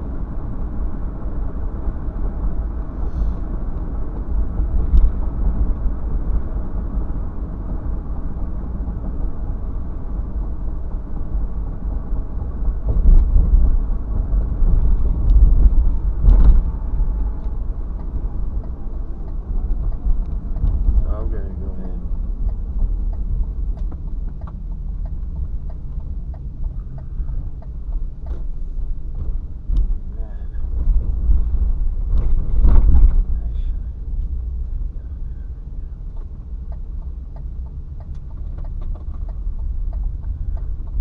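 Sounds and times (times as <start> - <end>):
car rumbling on the move: 0.0 - 41.0.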